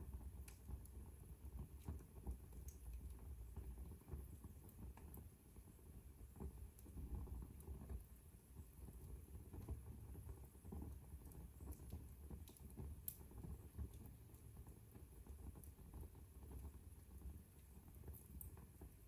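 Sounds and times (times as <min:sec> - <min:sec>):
fire crackling in fireplace: 0:00.0 - 0:19.0
fire pop: 0:00.0 - 0:19.0.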